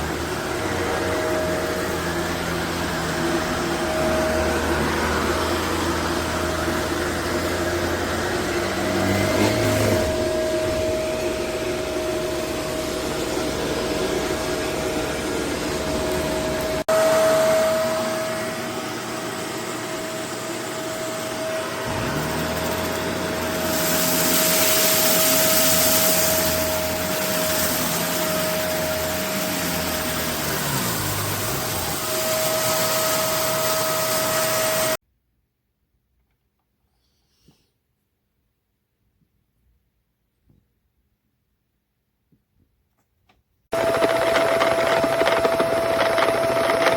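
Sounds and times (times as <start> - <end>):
vacuum cleaner running: 0.0 - 35.0, 43.7 - 46.9.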